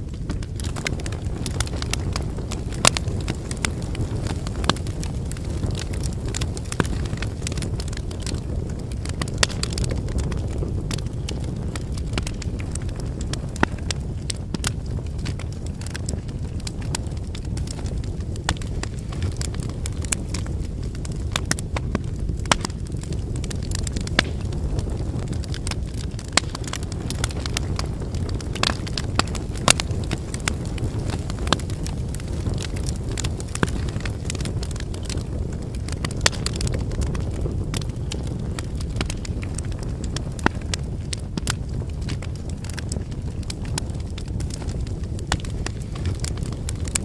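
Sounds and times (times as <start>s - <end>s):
low rumble of flames: 0.0s - 47.0s
wood fire crackling: 0.0s - 47.0s.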